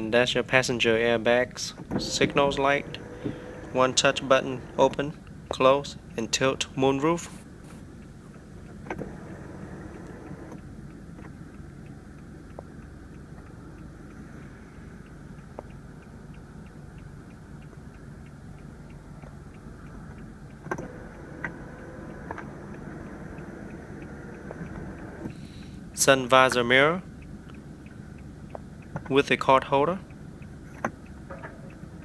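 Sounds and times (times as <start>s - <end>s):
low hum in car cabin: 0.0s - 32.0s.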